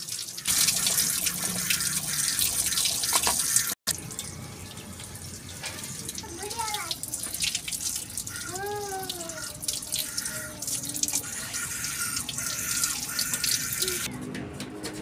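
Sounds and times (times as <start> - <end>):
tap water splashing into sink: 0.0 - 3.7, 5.5 - 14.0.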